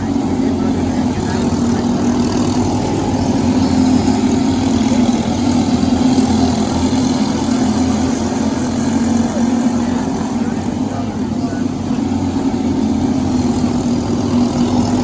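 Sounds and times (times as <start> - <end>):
kart engine running: 0.0 - 15.0.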